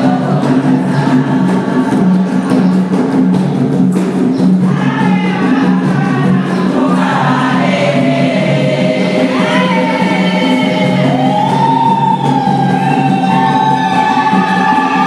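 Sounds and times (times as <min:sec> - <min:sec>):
choir and congregation singing: 0:00.0 - 0:03.6, 0:04.6 - 0:15.0
light percussion: 0:00.0 - 0:15.0.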